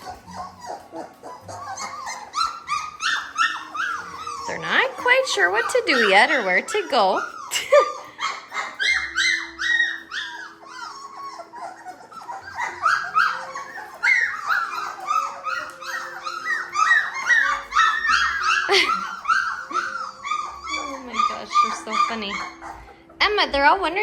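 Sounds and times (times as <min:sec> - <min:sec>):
puppies whining and squealing: 0:00.0 - 0:24.0.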